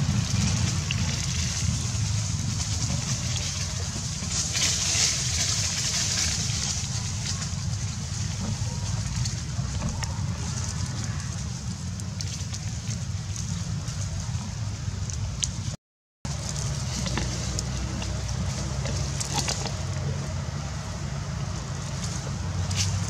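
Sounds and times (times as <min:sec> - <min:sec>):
low rumble: 0:00.0 - 0:23.0
small scattered crackles: 0:00.0 - 0:23.0.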